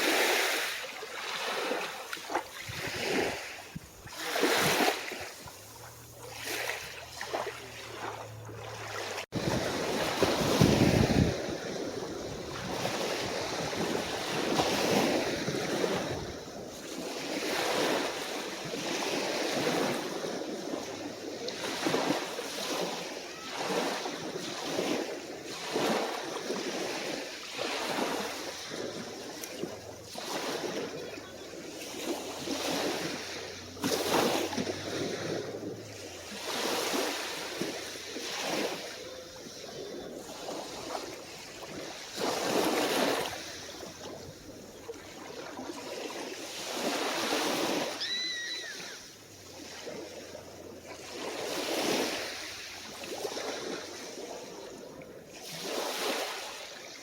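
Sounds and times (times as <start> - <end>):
small waves breaking on shore: 0.0 - 57.0.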